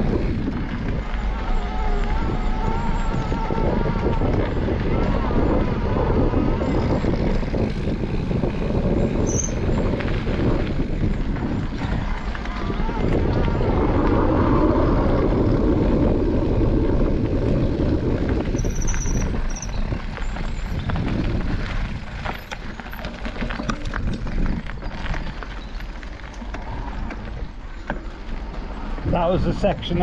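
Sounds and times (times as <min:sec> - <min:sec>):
bike tyres rolling on gravel: 0:00.0 - 0:30.0
stones and bike rattling: 0:00.0 - 0:30.0.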